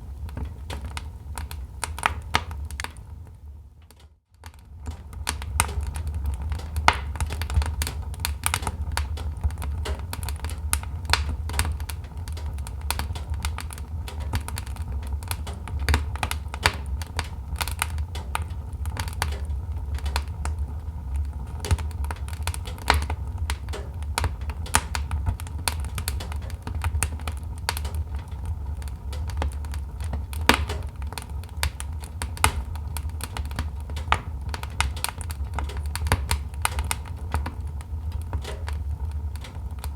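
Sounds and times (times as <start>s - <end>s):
logs crackling and popping: 0.0s - 39.9s
low rumble of flames: 0.0s - 39.9s.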